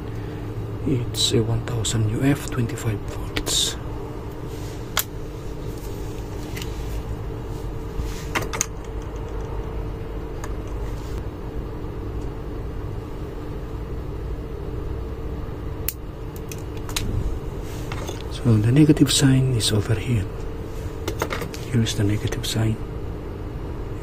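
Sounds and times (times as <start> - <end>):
machinery hum and rumble: 0.0 - 24.0.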